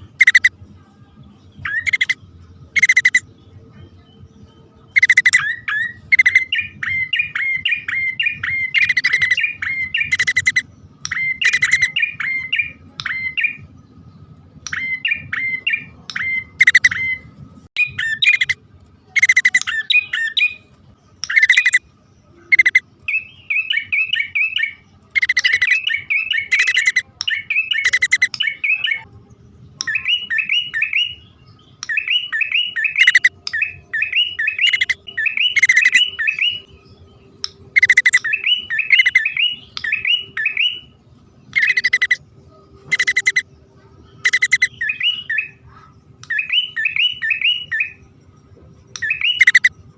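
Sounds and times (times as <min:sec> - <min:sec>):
birds chirping rapidly: 0:00.0 - 0:49.9.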